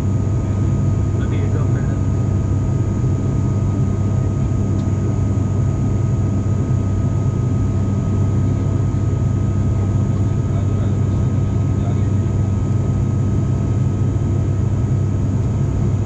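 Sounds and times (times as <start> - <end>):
turboprop cabin drone: 0.0 - 16.0.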